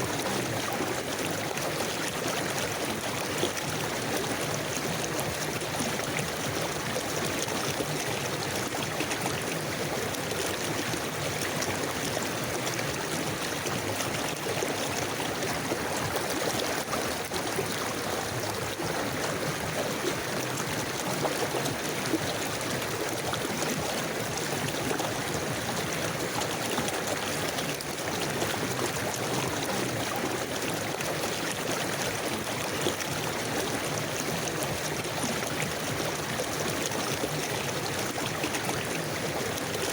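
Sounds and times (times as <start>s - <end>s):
river flowing and gurgling: 0.0s - 39.9s.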